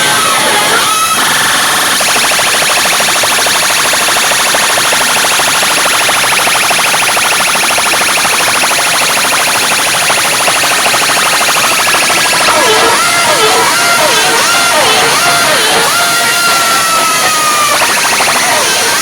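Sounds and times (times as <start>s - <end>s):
distorted sound system pulsing: 0.0s - 19.0s.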